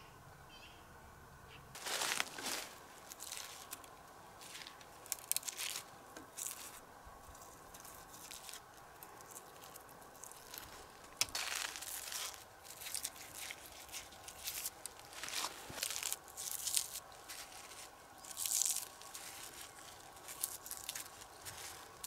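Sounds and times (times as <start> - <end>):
rustling and crunching: 1.7 - 22.0.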